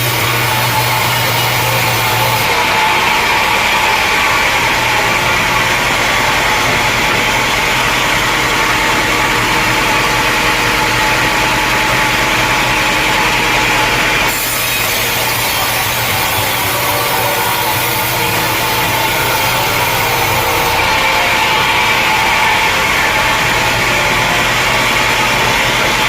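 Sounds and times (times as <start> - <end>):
saw blade cutting through log: 0.0 - 26.0.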